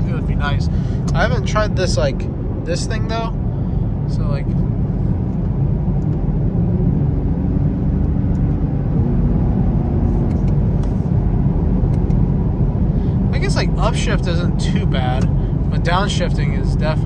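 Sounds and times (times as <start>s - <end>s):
car engine revving: 0.0s - 17.0s
road noise: 0.0s - 17.0s.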